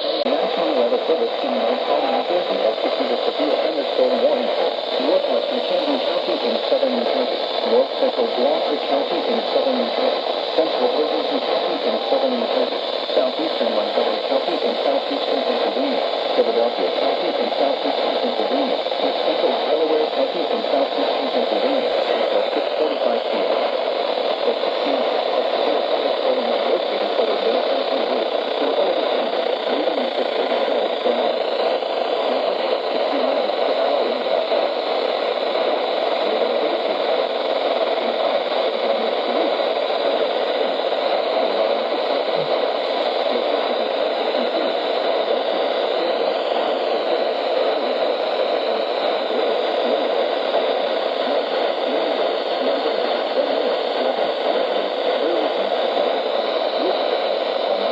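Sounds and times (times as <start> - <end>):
radio static hiss: 0.0 - 57.9.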